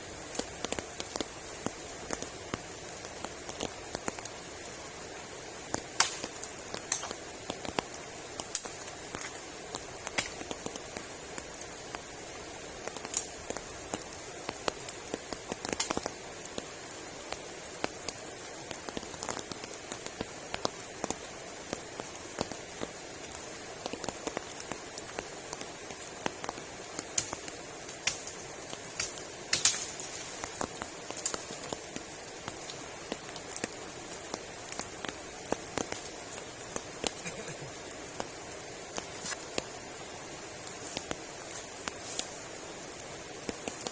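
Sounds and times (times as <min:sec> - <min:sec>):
raindrops striking close: 0:00.0 - 0:43.9
steady rain hiss: 0:00.0 - 0:43.9.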